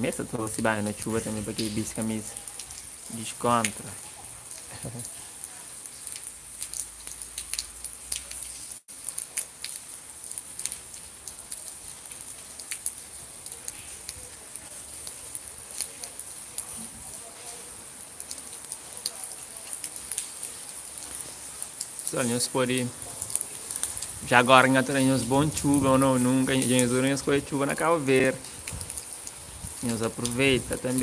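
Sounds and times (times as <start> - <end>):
raindrops pattering: 0.0 - 31.0
steady rain hiss: 0.0 - 31.0.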